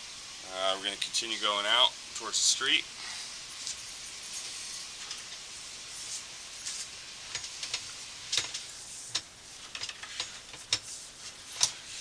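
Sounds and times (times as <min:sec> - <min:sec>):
cable hissing in drain pipe: 0:00.0 - 0:12.0.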